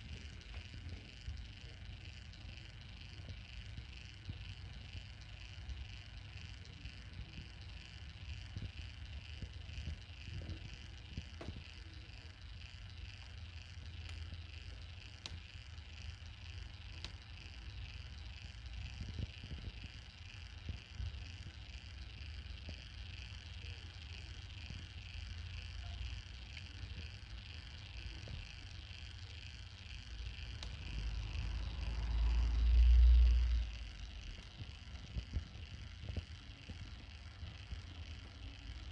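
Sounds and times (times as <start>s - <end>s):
microwave turntable motor humming: 0.0s - 38.9s
small ticks: 0.0s - 38.9s.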